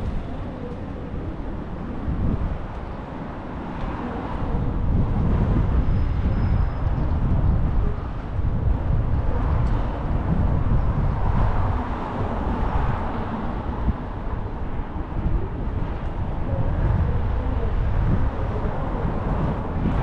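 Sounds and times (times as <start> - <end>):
distant traffic: 0.0 - 20.0
street noise: 0.0 - 20.0.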